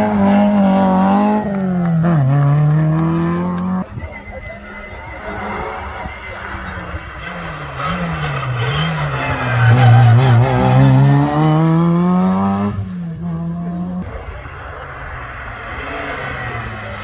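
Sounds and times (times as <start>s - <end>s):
rally car engine revving past: 0.0s - 3.8s, 5.2s - 17.0s.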